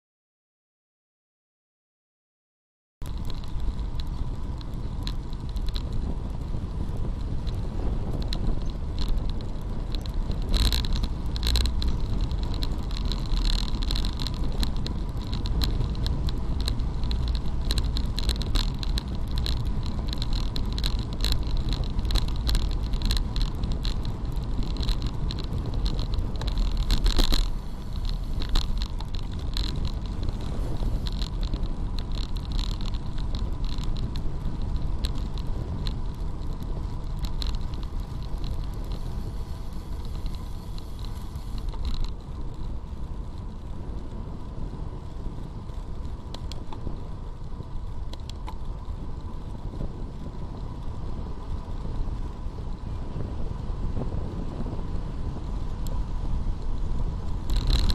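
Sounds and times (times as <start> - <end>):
bicycle rattling: 3.0 - 57.9
wind rush on microphone: 3.0 - 57.9
bicycle jolts: 3.1 - 57.9.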